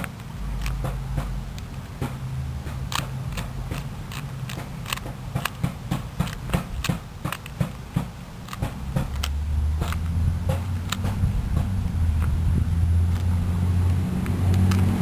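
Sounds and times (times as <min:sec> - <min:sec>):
puzzle cube clicking: 0:00.0 - 0:15.0.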